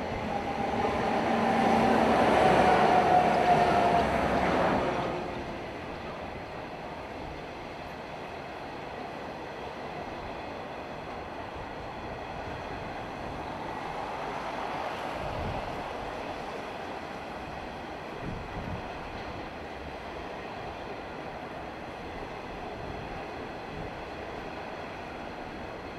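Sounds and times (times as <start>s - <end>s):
train wheels rumbling on rail: 0.0s - 25.9s.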